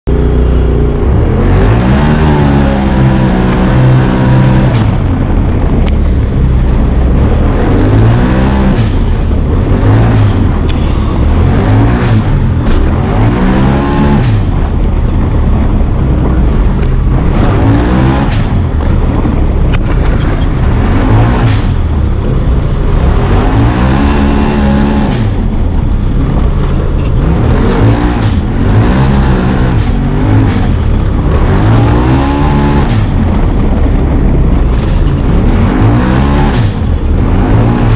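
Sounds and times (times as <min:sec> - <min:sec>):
engine revving: 0:00.0 - 0:37.9.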